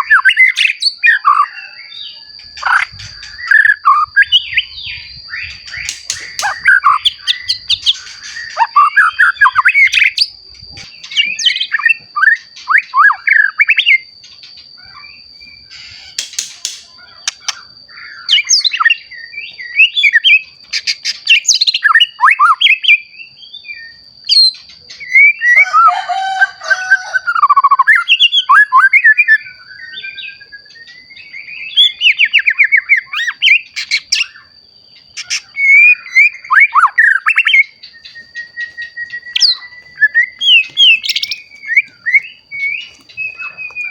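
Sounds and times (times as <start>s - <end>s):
bird singing whistled phrases: 0.0s - 14.1s, 17.2s - 34.5s, 35.2s - 43.9s.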